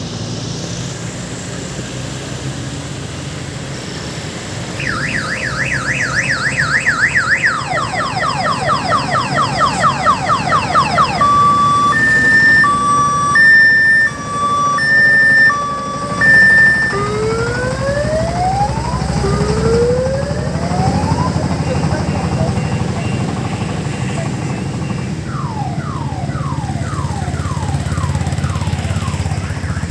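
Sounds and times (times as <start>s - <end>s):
low engine hum: 0.0s - 29.9s
electronic multi-tone siren: 4.8s - 29.9s.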